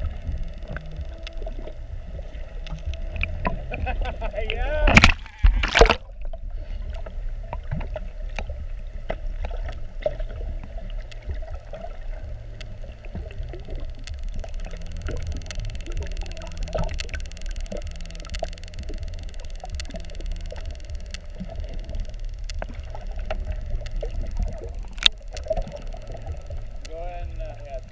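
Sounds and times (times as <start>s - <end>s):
clicks and crackles: 0.0s - 27.9s
faint low hum: 0.0s - 27.9s
muffled low underwater rumble: 0.0s - 27.9s.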